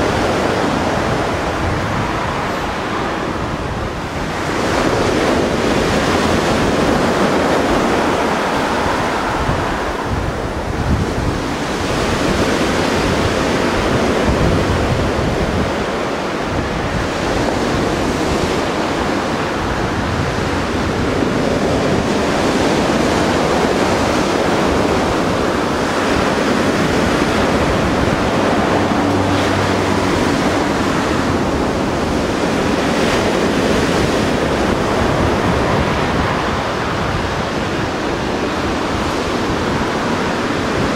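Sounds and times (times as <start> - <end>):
sea surf washing on shore: 0.0 - 40.9
wind buffeting microphone: 0.0 - 40.9.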